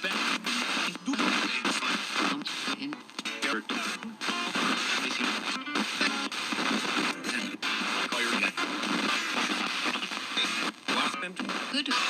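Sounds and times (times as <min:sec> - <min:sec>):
broadcast music fragments: 0:00.0 - 0:10.6
radio static: 0:00.0 - 0:12.0
radio voices: 0:00.0 - 0:12.0.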